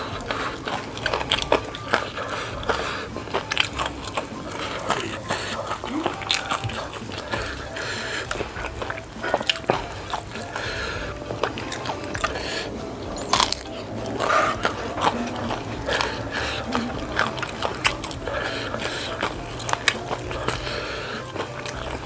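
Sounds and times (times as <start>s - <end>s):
chewing noodles: 0.0s - 22.0s
mouth clicks: 0.0s - 22.0s.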